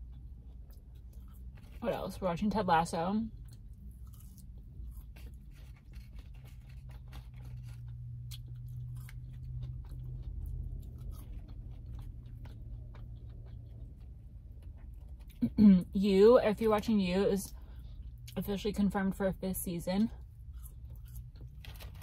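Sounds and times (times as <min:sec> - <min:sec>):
person chewing fries: 0:00.0 - 0:15.5, 0:16.7 - 0:18.5, 0:20.0 - 0:22.0
low steady hum: 0:00.0 - 0:22.0.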